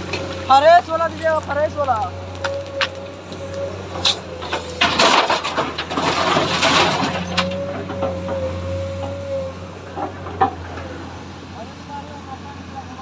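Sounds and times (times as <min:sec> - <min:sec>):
excavator engine drone: 0:00.0 - 0:13.0.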